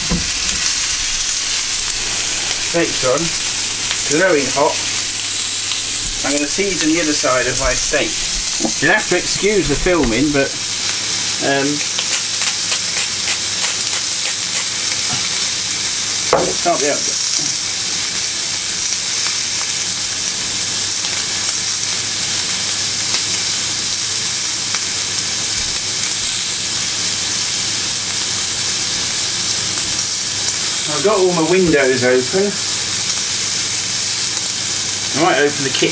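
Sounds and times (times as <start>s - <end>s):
steaks sizzling on a griddle pan: 0.0s - 35.9s.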